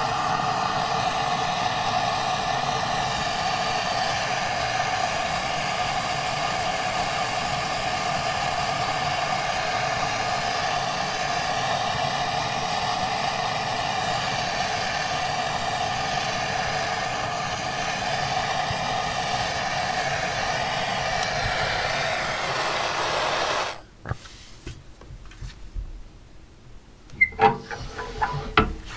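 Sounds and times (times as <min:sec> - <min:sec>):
blowtorch flame hissing: 0:00.0 - 0:23.9.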